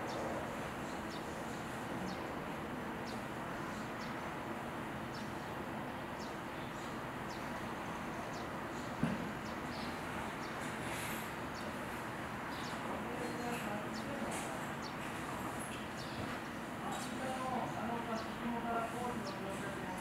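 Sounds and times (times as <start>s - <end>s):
background hum: 0.0s - 20.0s
small birds chirping: 0.0s - 20.0s.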